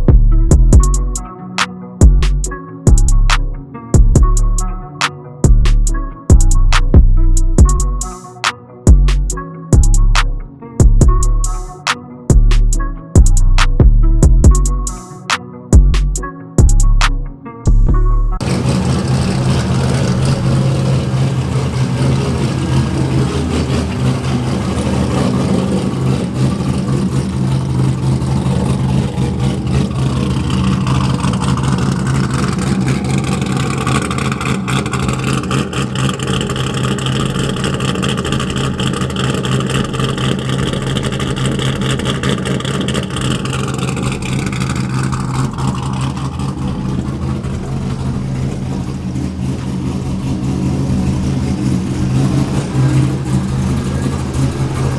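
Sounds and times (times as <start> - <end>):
car engine running: 0.0 - 1.3, 2.0 - 8.2, 8.9 - 15.1, 15.8 - 54.9.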